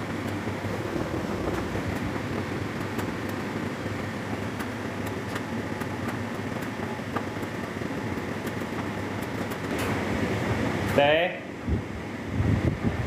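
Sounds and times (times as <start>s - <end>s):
tumble dryer humming and whirring: 0.0s - 13.0s.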